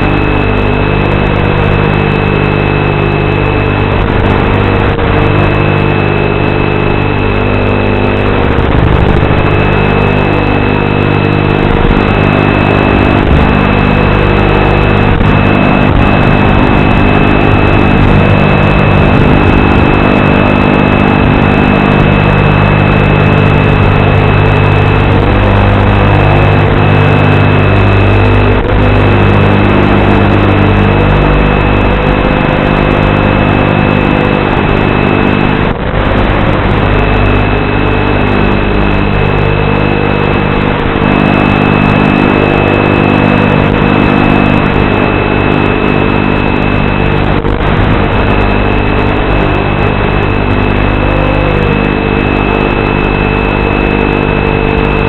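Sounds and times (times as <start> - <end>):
quadcopter motors buzzing: 0.0 - 55.0
thin high whine: 0.0 - 55.0.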